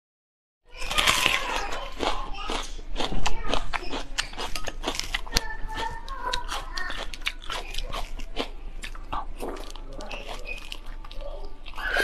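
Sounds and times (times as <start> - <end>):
sticky chewing mouth sounds: 0.8 - 12.0.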